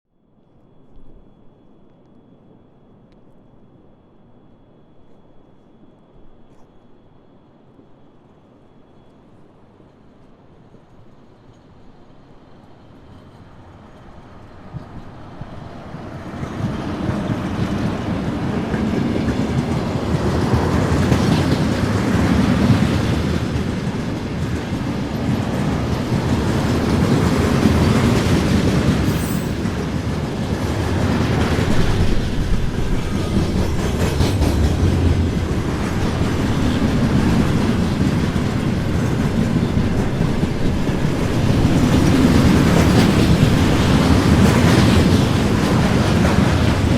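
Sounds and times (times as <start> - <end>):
freight train rumble: 0.6 - 46.9.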